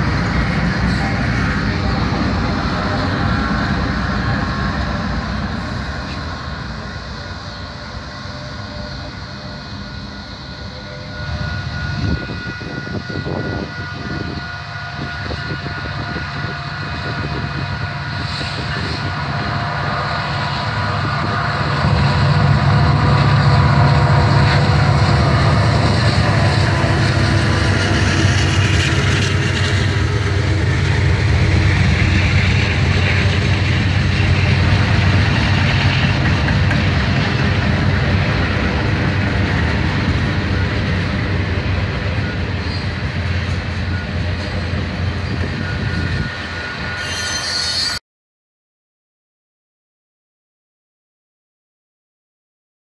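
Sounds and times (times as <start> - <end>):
freight cars rumbling on rails: 0.0 - 48.0
locomotive engines droning: 0.0 - 48.0.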